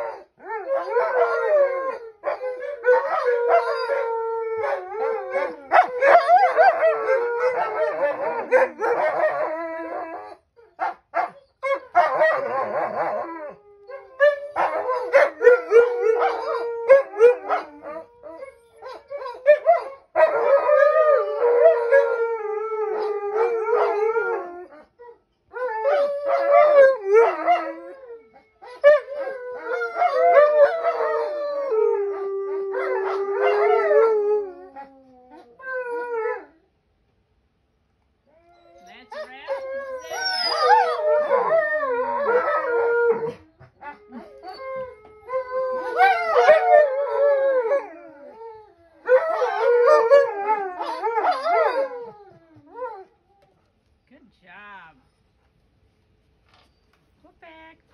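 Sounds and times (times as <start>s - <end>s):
dogs howling: 0.0s - 10.4s, 11.3s - 24.9s, 25.5s - 36.6s, 38.6s - 53.2s.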